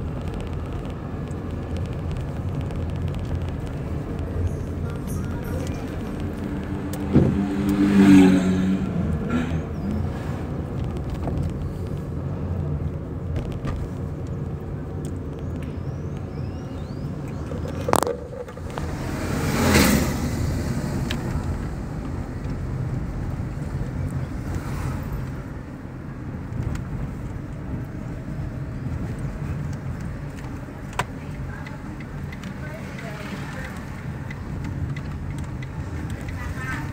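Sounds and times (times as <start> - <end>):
car engine and road rumble: 0.0 - 36.9.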